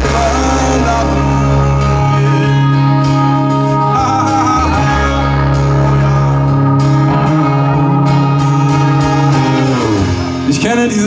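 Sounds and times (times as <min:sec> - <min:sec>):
live pop-rock band: 0:00.0 - 0:11.0
person singing: 0:00.0 - 0:11.0.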